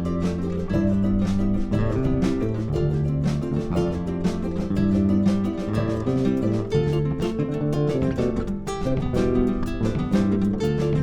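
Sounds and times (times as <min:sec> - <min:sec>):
electric bass: 0:00.0 - 0:11.0
strummed guitar and charango: 0:00.0 - 0:11.0.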